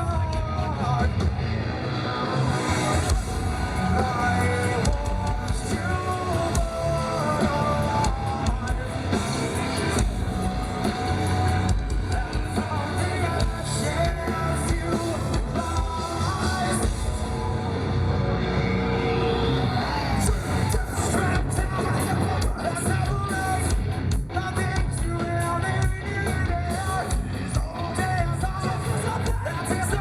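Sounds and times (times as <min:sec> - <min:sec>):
electric guitar: 0:00.0 - 0:30.0
rock band playing live: 0:00.0 - 0:30.0
person singing: 0:02.0 - 0:18.0, 0:18.6 - 0:30.0.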